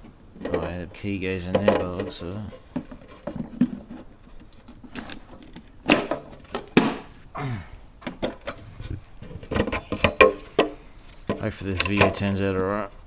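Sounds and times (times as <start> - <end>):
plastic parts clicking and knocking: 0.0 - 7.1, 8.0 - 13.0.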